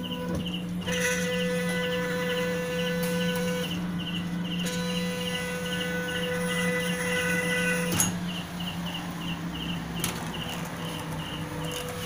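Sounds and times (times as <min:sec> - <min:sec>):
stepper motor whine: 0:00.0 - 0:12.0.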